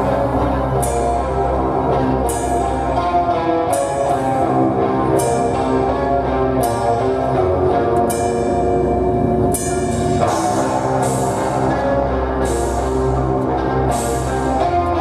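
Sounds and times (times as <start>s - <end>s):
live heavy metal music: 0.0s - 15.0s.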